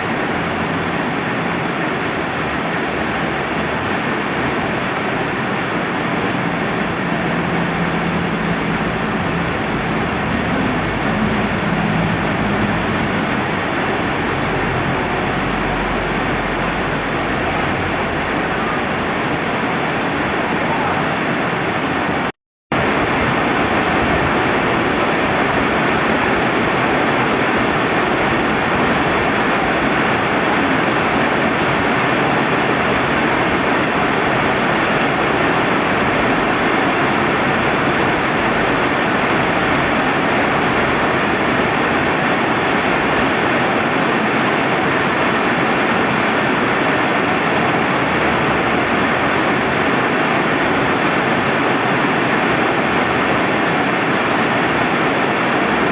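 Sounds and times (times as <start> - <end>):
flowing river water: 0.0 - 55.9
steady rain: 0.0 - 55.9.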